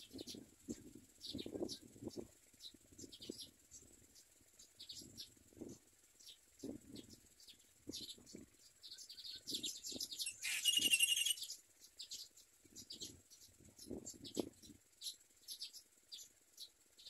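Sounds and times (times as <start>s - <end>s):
nestlings begging chirps: 0.0s - 17.0s.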